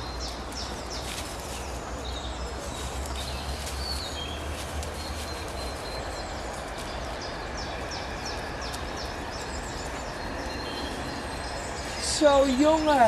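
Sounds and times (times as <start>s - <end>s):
birds singing: 0.0s - 13.0s
outdoor background hiss: 0.0s - 13.0s.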